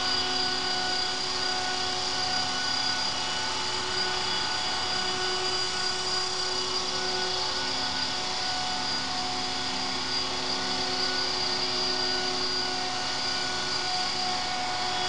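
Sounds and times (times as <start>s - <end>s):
high motor whine: 0.0s - 15.0s.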